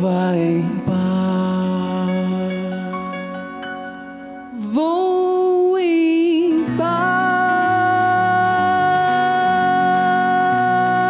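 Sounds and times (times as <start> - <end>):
keyboard and bass chords: 0.0 - 11.0.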